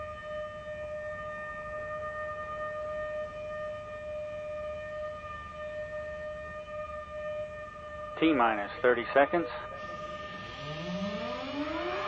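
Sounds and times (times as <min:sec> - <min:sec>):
steady warning siren tone: 0:00.0 - 0:12.0.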